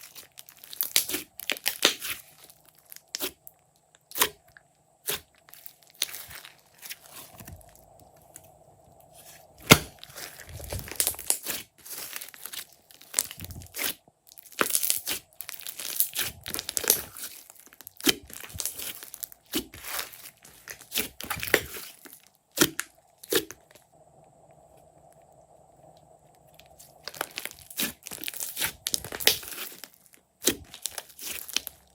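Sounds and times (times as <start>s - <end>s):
slime crackling and popping: 0.0s - 8.5s, 9.6s - 23.8s, 26.5s - 31.9s.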